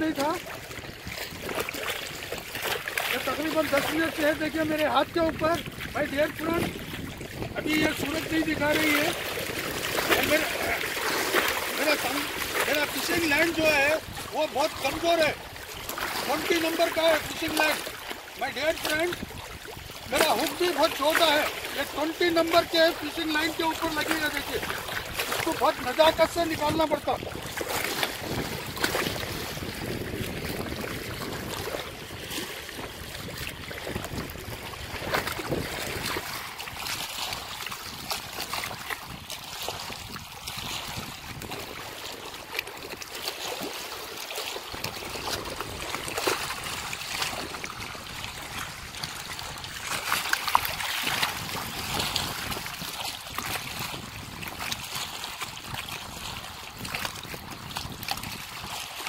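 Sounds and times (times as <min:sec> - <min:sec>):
small waves lapping on rocks: 0:00.0 - 0:59.0.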